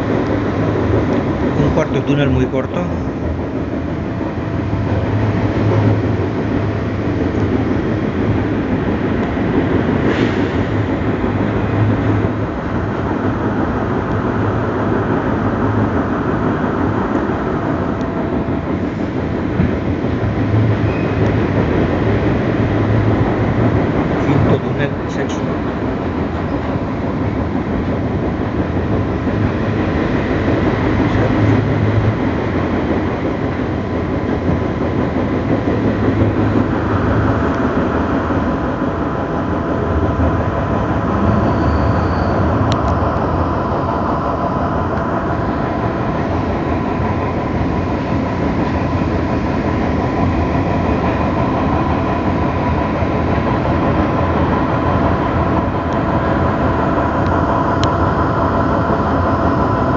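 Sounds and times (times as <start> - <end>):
faint steady whine: 0.0 - 59.9
train wheels on rails: 0.0 - 59.9.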